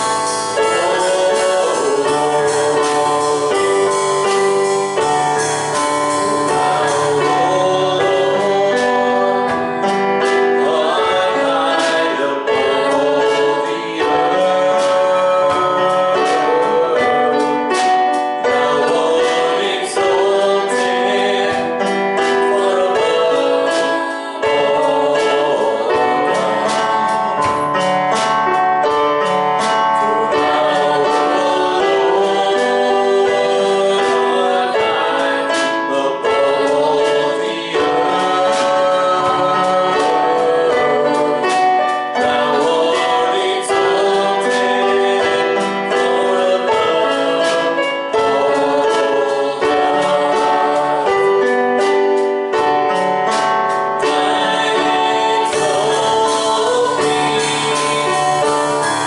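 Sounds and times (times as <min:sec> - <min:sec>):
congregation singing: 0:00.0 - 0:59.0
percussive beat: 0:00.0 - 0:59.0.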